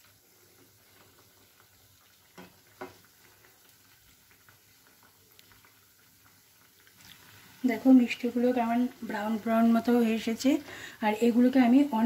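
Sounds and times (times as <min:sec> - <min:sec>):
faint sizzling of deep-frying: 0:00.0 - 0:12.0.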